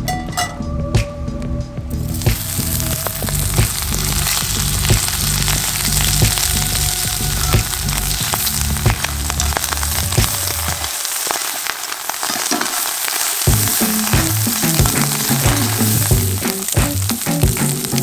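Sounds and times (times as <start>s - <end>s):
background music: 0.0s - 10.8s, 13.5s - 18.0s
food sizzling in skillet: 2.0s - 18.0s.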